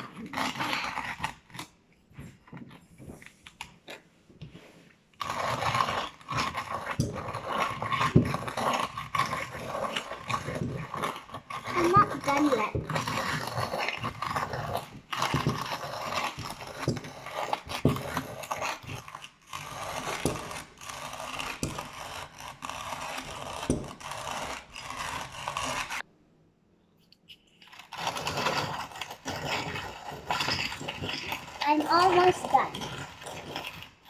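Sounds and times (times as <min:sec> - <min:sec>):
coffee grinder crunching beans: 0:00.0 - 0:01.8, 0:05.2 - 0:26.0, 0:27.6 - 0:34.0.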